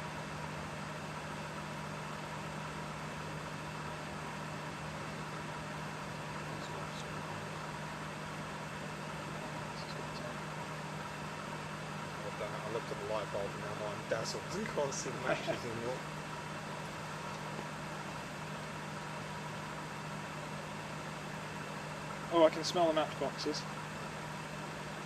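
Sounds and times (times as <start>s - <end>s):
microwave fan: 0.0s - 25.0s
microwave oven humming: 0.0s - 25.0s.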